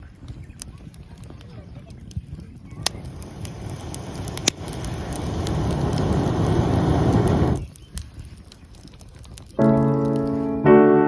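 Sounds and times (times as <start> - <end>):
campfire crackling: 0.0 - 10.7.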